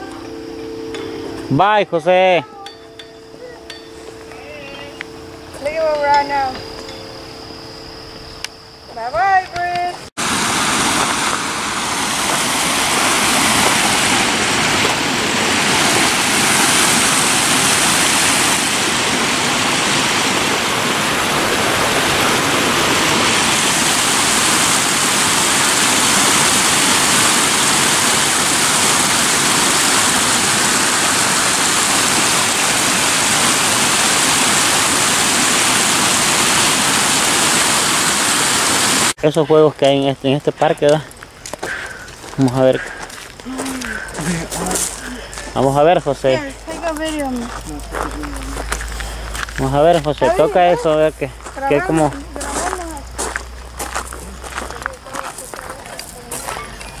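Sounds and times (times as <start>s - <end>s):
stream water rushing over stones: 10.2s - 57.0s.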